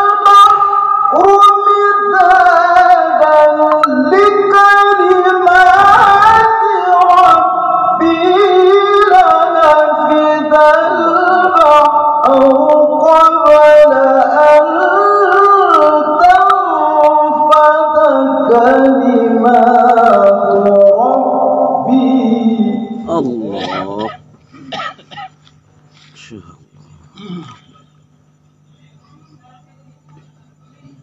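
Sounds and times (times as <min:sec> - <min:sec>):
man reciting melodically: 0:00.0 - 0:24.3, 0:26.0 - 0:26.8.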